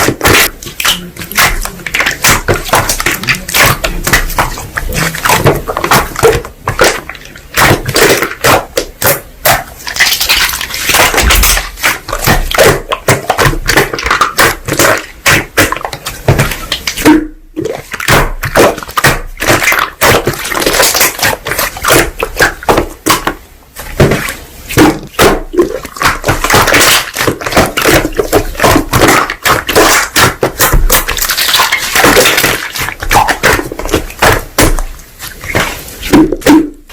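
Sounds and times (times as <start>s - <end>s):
slime squished by hand: 0.0s - 36.9s.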